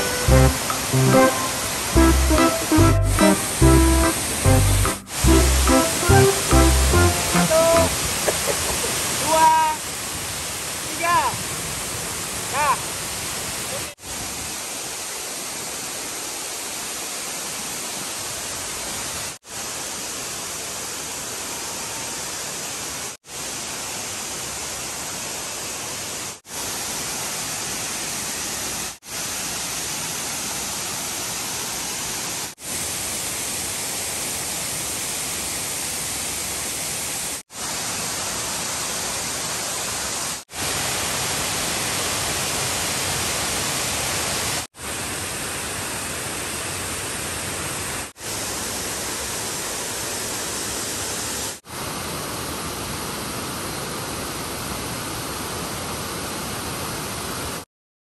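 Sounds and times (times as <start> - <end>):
waterfall rushing: 0.0 - 57.6.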